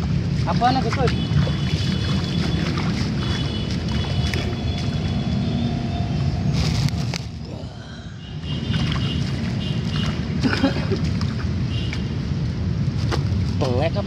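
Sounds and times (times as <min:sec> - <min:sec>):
muddy water sloshing: 0:00.0 - 0:07.5, 0:08.3 - 0:13.6.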